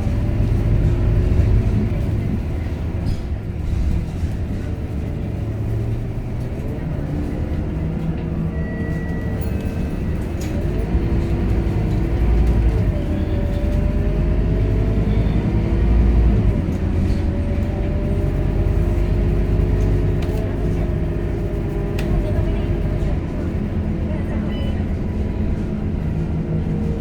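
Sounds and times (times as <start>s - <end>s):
bus diesel engine rumble with whine: 0.0s - 27.0s.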